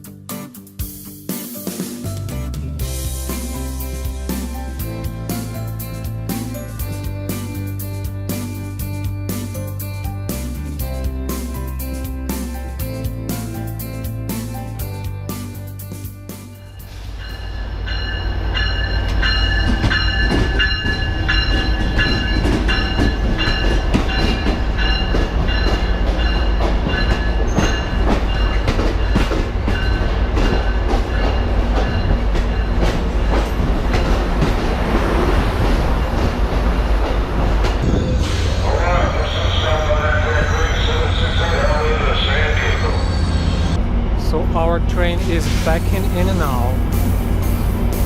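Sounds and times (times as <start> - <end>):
train rumbling: 2.1 - 48.0.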